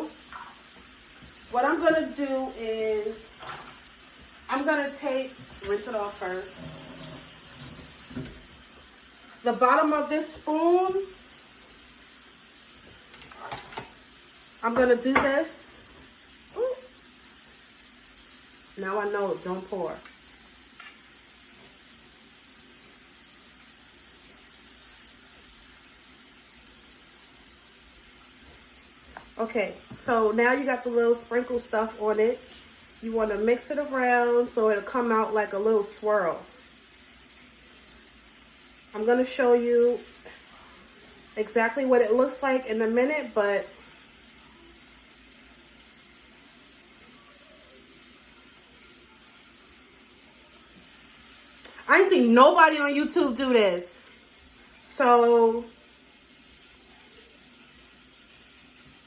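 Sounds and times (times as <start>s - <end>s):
faint steady hiss: 0.0s - 59.0s
food frying in hot oil: 0.0s - 59.0s.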